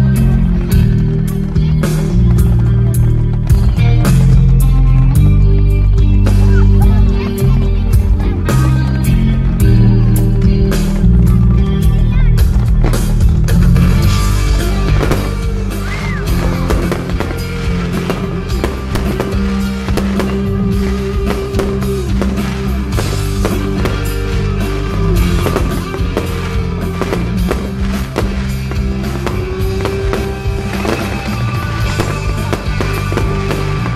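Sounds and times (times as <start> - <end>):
fireworks bursting with bangs: 0.0 - 6.7, 9.3 - 33.9
music: 0.0 - 33.9.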